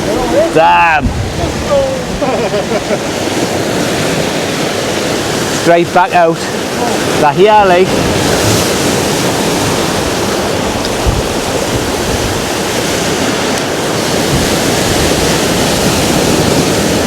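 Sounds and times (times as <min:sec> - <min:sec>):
sea surf washing against rocks: 0:00.0 - 0:17.0
wind: 0:00.0 - 0:17.0.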